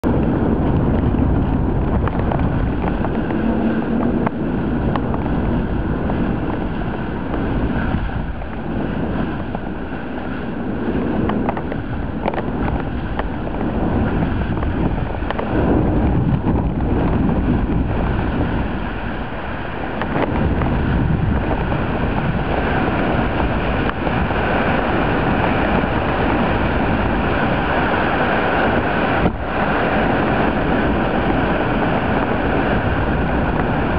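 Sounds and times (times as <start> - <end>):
wind noise on microphone: 0.0 - 33.9.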